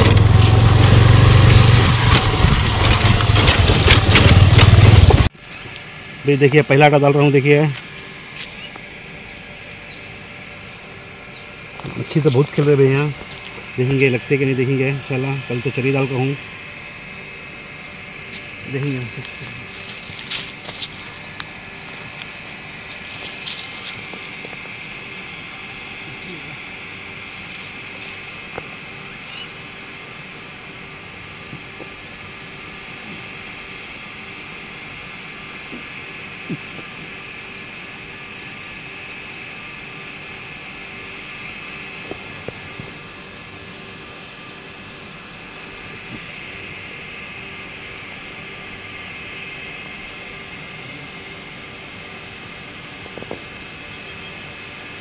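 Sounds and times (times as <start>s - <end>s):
low hum: 0.0s - 55.0s
outdoor background drone: 0.0s - 55.0s
even hiss: 9.8s - 55.0s.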